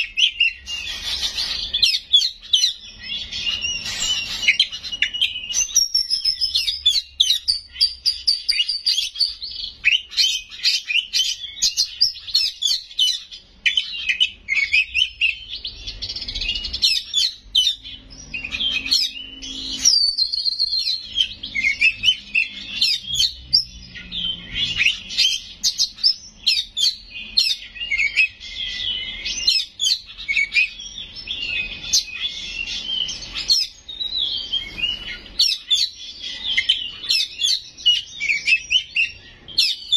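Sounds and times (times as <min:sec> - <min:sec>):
bird singing varied whistles: 0:00.0 - 0:15.7, 0:18.4 - 0:39.9.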